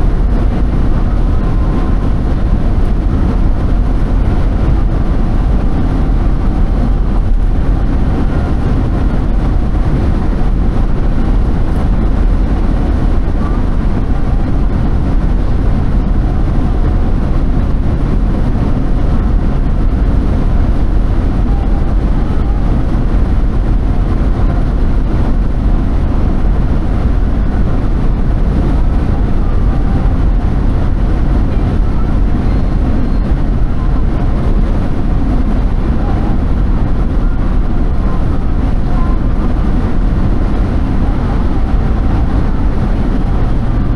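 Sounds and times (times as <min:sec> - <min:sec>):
road noise: 0:00.0 - 0:43.9
vehicle engine rumble: 0:00.0 - 0:43.9.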